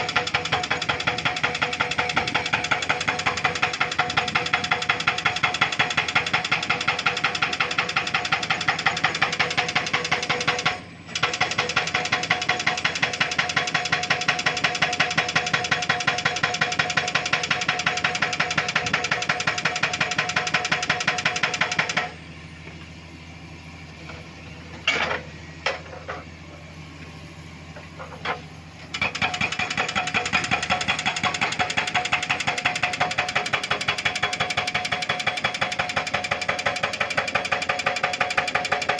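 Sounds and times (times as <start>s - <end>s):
hydraulic breaker hammering rock: 0.0s - 22.2s, 27.8s - 38.9s
excavator engine running: 0.0s - 38.9s.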